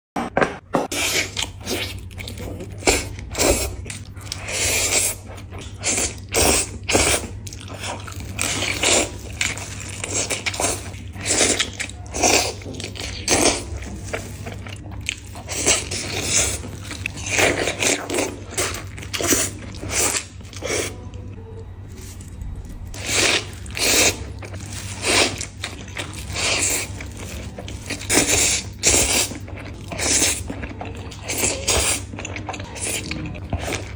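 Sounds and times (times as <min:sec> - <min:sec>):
biting and chewing crunchy food: 0:00.2 - 0:33.9.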